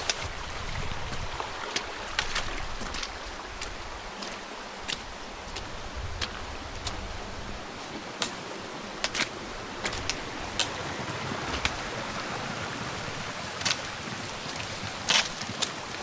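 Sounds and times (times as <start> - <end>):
footsteps on rocky ground: 0.0 - 11.0, 13.1 - 16.0
stream rushing: 0.0 - 16.0.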